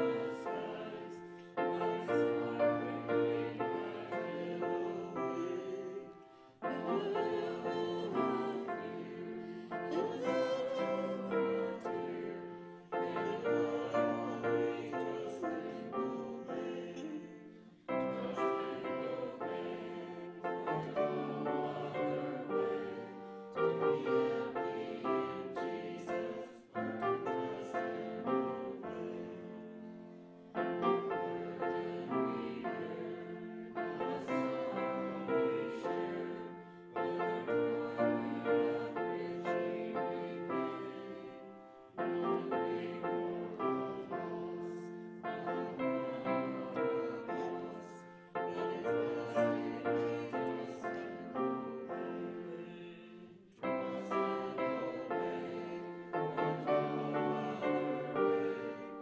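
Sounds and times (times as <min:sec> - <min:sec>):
congregation singing a hymn: 0:00.0 - 0:59.0
piano accompaniment: 0:00.0 - 0:59.0.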